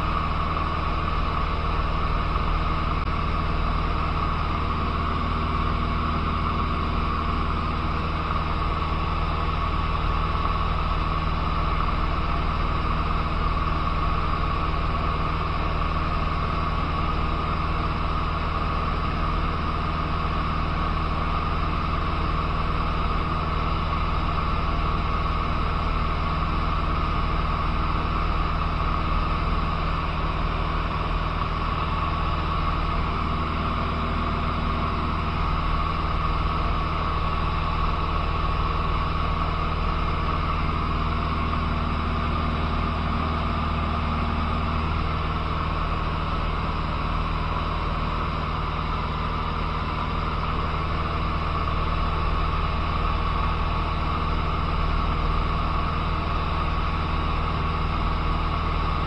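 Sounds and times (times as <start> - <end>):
plane engine and propeller droning: 0.0 - 59.0.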